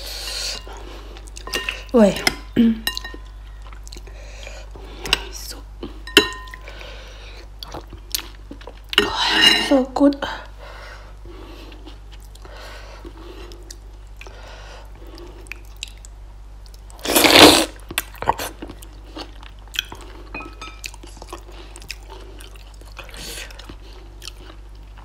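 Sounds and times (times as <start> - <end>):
person chewing food: 0.0 - 1.9, 2.9 - 9.1, 11.0 - 25.0.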